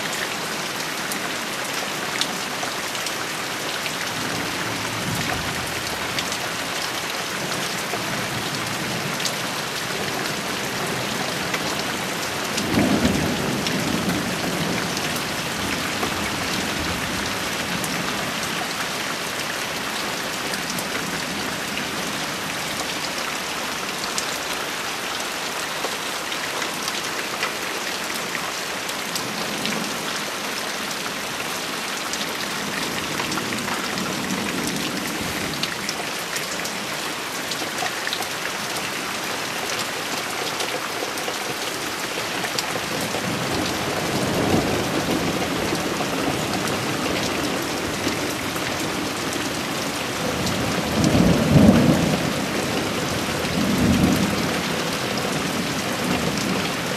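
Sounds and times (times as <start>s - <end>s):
steady rain: 0.0s - 56.9s
raindrops tapping close by: 0.1s - 56.9s.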